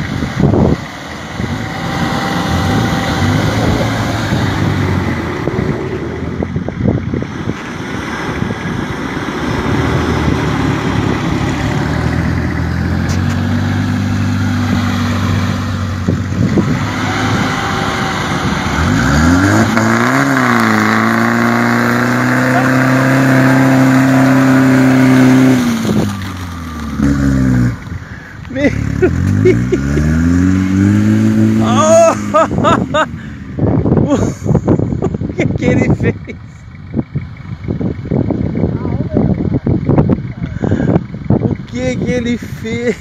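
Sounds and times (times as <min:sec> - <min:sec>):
off-road engines revving: 0:00.0 - 0:43.0.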